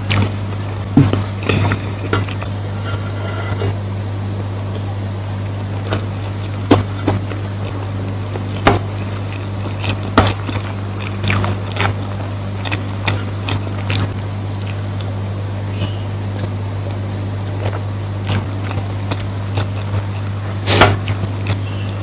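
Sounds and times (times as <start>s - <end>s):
chewing with smacks and clicks: 0.0s - 2.5s, 5.8s - 15.2s, 15.8s - 22.0s
steady low hum: 0.0s - 22.0s.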